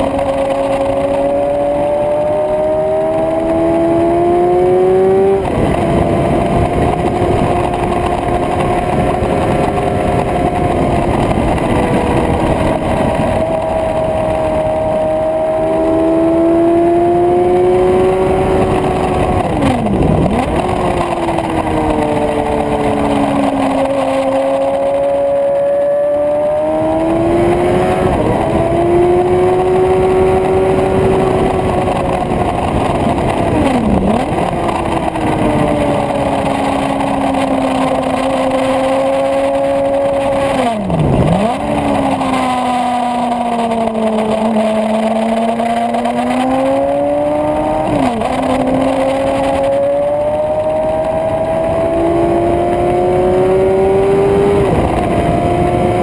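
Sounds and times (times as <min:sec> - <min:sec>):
motorcycle engine running hard: 0:00.0 - 0:56.0
wind rush: 0:00.0 - 0:56.0.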